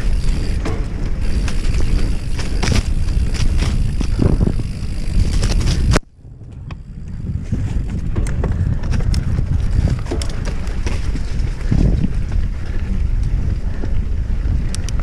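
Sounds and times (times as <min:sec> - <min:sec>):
clattering rattles over rough trail: 0:00.0 - 0:15.0
wind buffeting microphone: 0:00.0 - 0:15.0.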